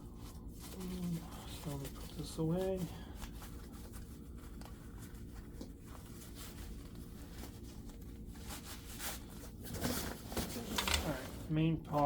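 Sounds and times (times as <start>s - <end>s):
backpack rustling and scratching: 0.1s - 12.0s.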